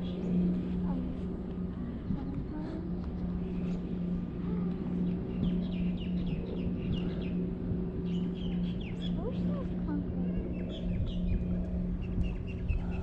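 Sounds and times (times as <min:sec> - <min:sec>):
low hum: 0:00.0 - 0:13.0
wind on microphone: 0:00.0 - 0:13.0.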